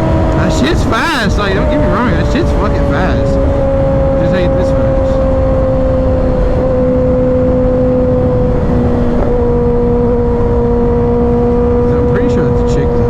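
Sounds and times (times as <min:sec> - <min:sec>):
motorcycle engine at high revs: 0:00.0 - 0:13.0
wind rush: 0:00.0 - 0:13.0.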